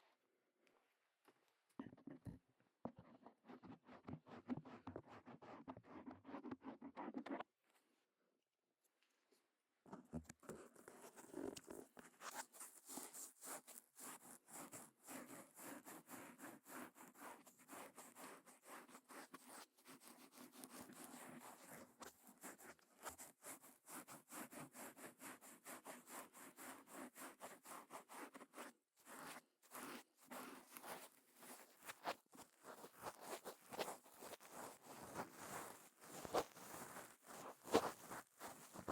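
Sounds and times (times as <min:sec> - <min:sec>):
faint scratching on microphone: 0:01.8 - 0:07.5, 0:09.9 - 0:38.9.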